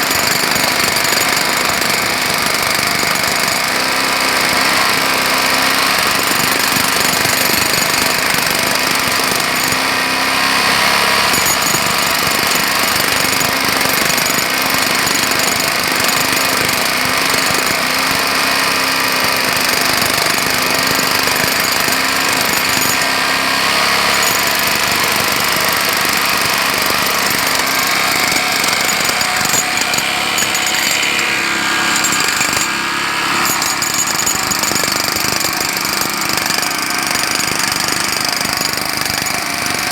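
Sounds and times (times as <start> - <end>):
jackhammer hammering: 0.0 - 39.9.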